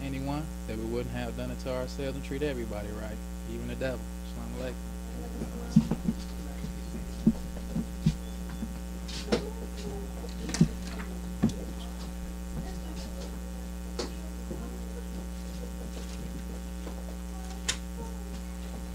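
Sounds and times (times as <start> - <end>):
electrical mains hum: 0.0 - 18.9.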